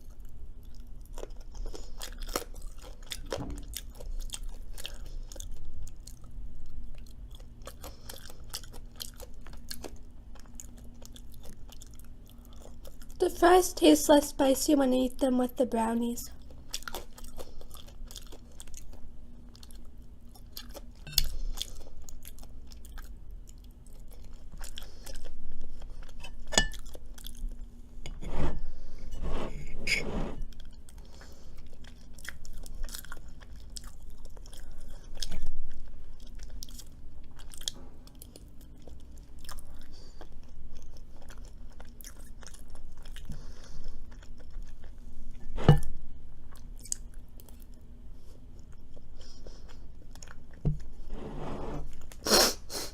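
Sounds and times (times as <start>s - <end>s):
chewing and crunching food: 0.0s - 13.6s, 16.1s - 28.0s, 30.4s - 51.1s
faint steady hum: 0.0s - 52.9s.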